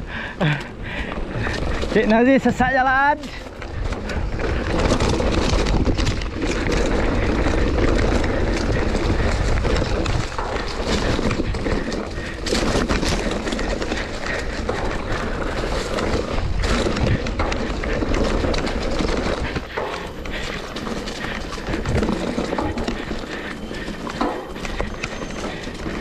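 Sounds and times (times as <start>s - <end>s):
wind rumble on microphone: 0.0s - 23.9s
bike rattling over bumpy ground: 0.0s - 26.0s.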